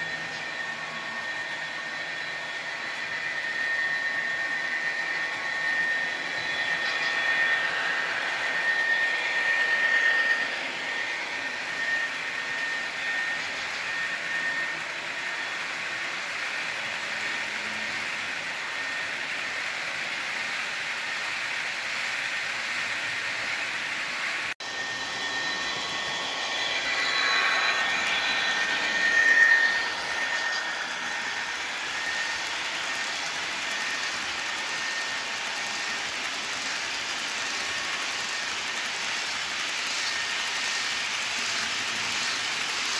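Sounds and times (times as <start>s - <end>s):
model train wheels hissing on rail: 0.0s - 42.9s
thin high whine: 0.0s - 42.9s.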